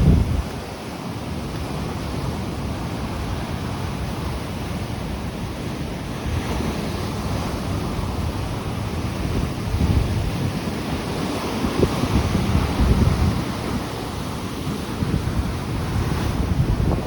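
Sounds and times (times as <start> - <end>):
stormy sea surf breaking: 0.0 - 17.0
wind buffeting microphone: 0.0 - 17.0.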